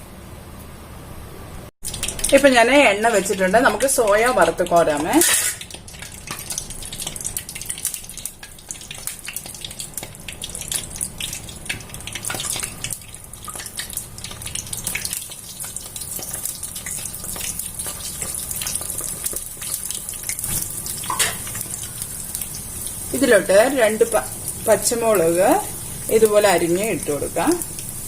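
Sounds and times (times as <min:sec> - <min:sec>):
food deep-frying in oil: 0:01.8 - 0:28.0.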